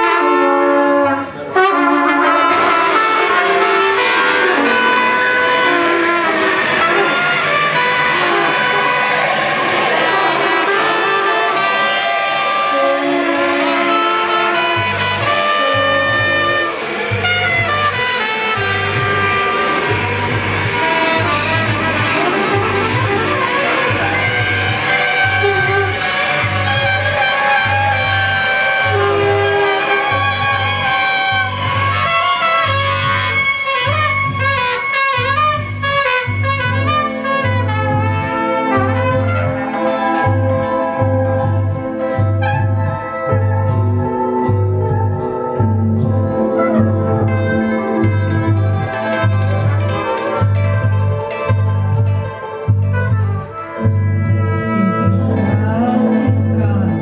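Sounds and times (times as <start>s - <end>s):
bass guitar: 0.0s - 57.0s
electric guitar: 0.0s - 57.0s
live band music: 0.0s - 57.0s
trumpet playing held notes: 0.0s - 57.0s.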